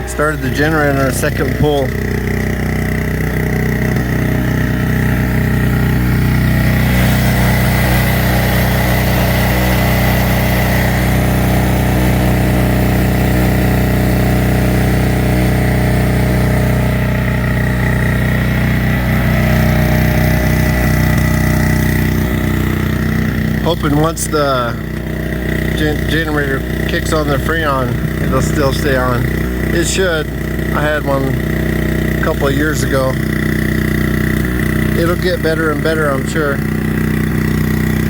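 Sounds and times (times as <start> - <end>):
portable generator running: 0.0 - 38.0.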